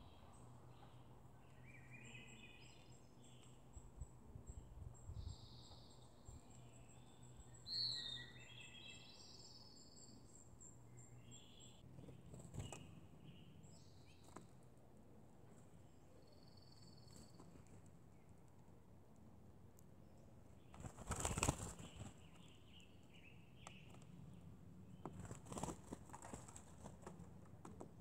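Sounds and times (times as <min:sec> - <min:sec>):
songbirds singing: 0:00.0 - 0:14.6, 0:15.6 - 0:18.6, 0:19.8 - 0:27.9.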